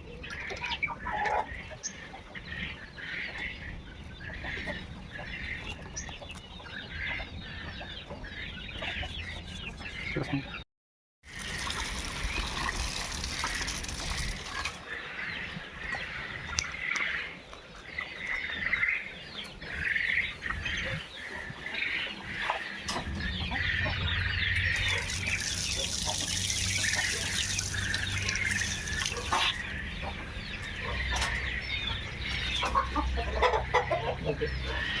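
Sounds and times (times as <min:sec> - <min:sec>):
birds chirping and clucking: 0:00.0 - 0:10.6, 0:11.4 - 0:35.0.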